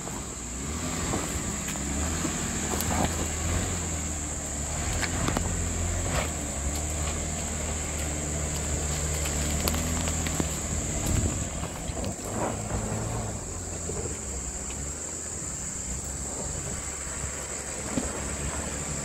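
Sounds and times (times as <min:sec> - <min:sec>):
car engine running at low revs: 0:00.0 - 0:19.0
faint clicks of stones under tyres: 0:00.0 - 0:19.0.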